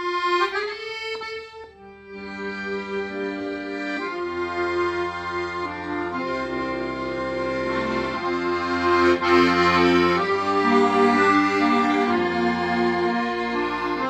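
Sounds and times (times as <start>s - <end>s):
accordion playing slow melody: 0.0s - 14.0s.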